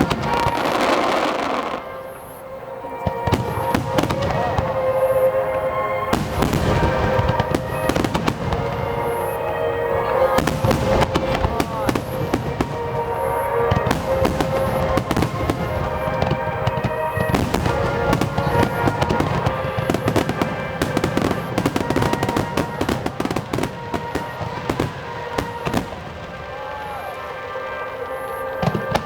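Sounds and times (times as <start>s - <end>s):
music playing: 0.0s - 29.0s.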